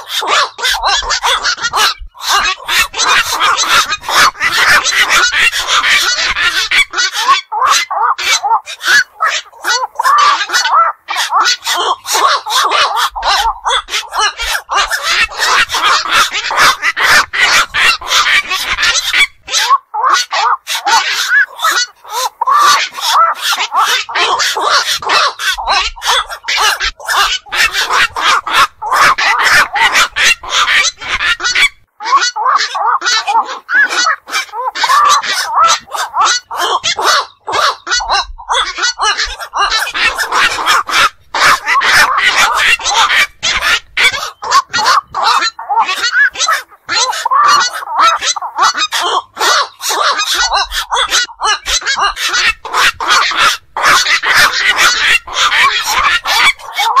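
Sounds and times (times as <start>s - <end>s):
heron honking calls: 0.0s - 57.0s.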